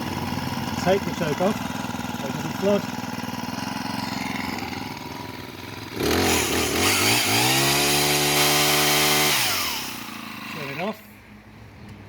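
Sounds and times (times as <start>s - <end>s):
chainsaw engine revving up: 0.0s - 11.0s.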